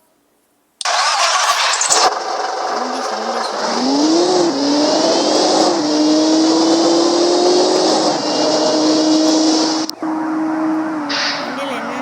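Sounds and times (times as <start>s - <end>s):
car engine pulling away: 0.8s - 12.0s.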